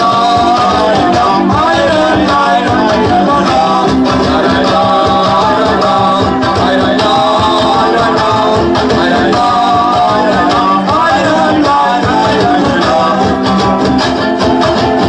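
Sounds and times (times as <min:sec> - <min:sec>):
lively folk dance music: 0:00.0 - 0:15.0.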